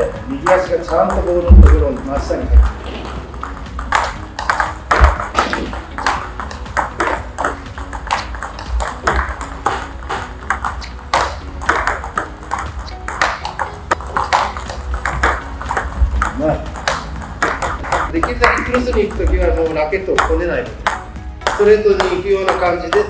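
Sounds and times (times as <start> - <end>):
table tennis ball ticking: 0.0 - 23.0.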